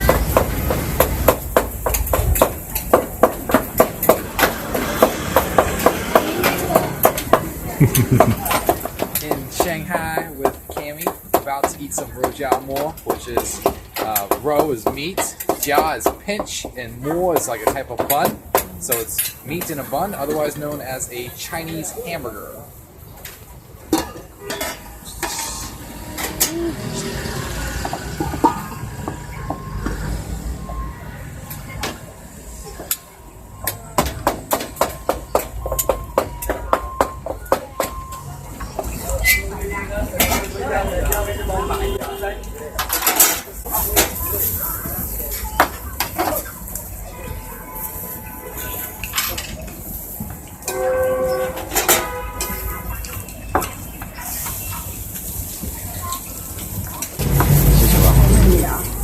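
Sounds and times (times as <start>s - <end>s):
street stall clatter: 0.0s - 59.0s.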